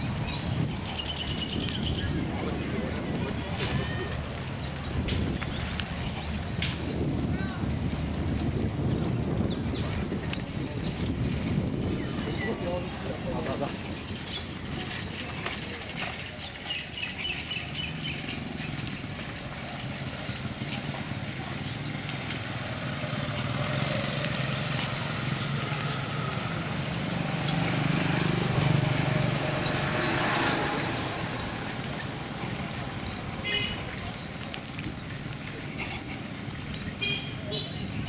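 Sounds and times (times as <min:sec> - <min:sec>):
road noise: 0:00.0 - 0:38.0.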